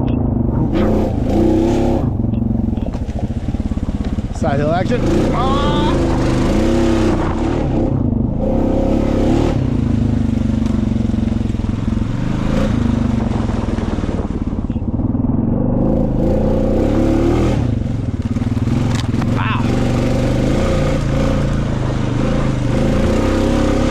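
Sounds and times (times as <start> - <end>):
atv engine running under load: 0.0 - 23.9.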